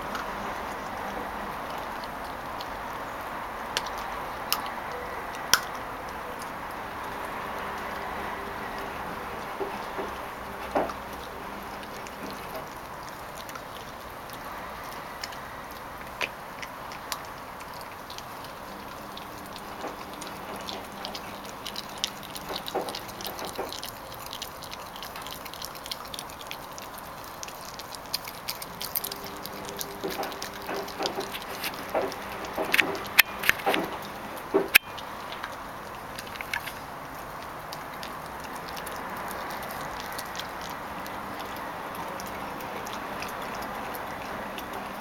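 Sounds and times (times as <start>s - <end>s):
puppy chewing bone: 0.0s - 45.0s.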